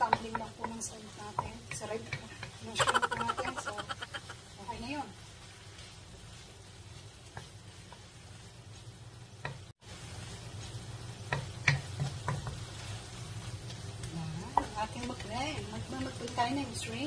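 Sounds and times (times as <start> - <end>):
shrimp sizzling in wok: 0.0 - 17.0.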